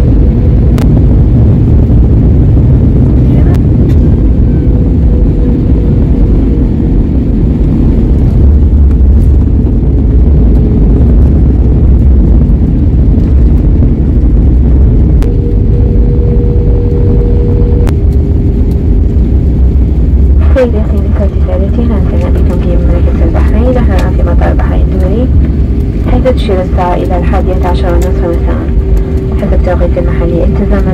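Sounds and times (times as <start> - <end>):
airplane cabin rumble: 0.0 - 30.9
faint steady hum: 0.0 - 30.9.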